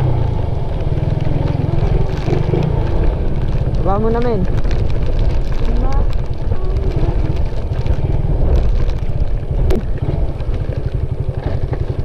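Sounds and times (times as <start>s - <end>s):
wind buffeting microphone: 0.0s - 11.3s
motorcycle engine running: 0.0s - 12.0s.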